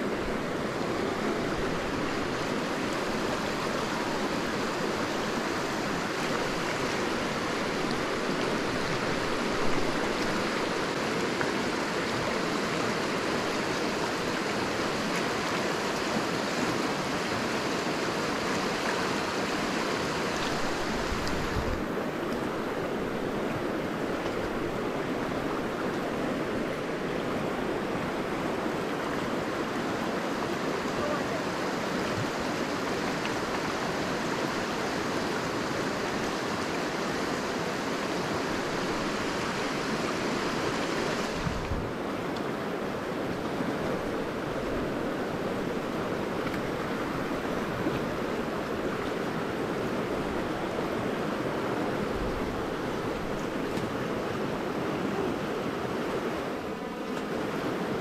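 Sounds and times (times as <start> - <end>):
river rushing over gravel: 0.0 - 58.0.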